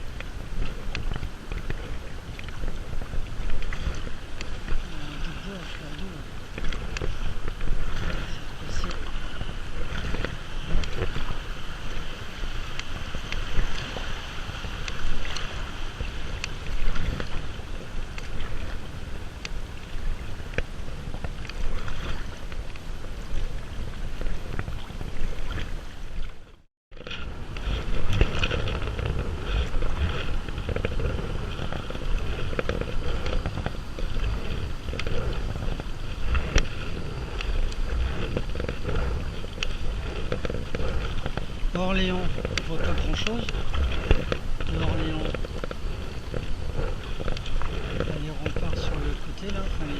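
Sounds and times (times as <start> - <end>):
water sounds: 0.0 - 49.9
wind rumbling on microphone: 0.0 - 49.9.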